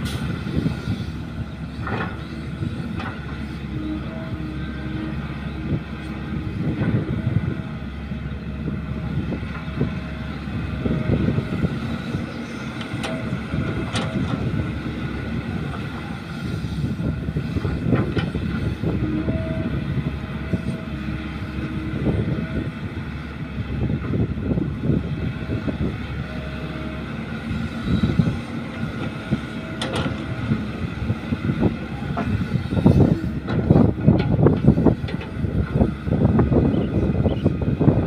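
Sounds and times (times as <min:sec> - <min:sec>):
excavator diesel engine under load: 0:00.0 - 0:38.0.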